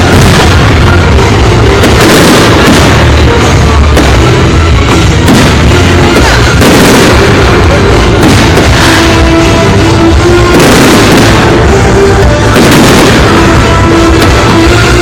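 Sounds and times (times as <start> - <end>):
fireworks bangs and crackles: 0.0 - 15.0
loud music: 0.0 - 15.0.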